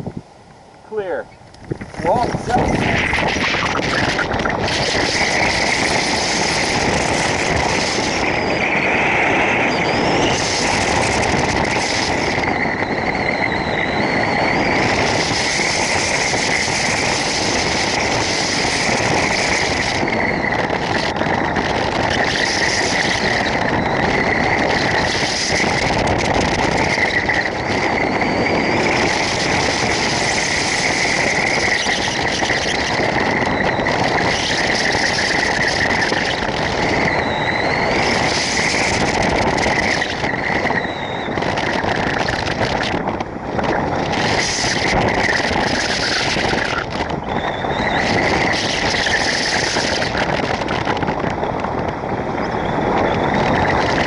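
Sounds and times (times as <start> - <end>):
wind roaring over microphone: 0.0 - 54.0.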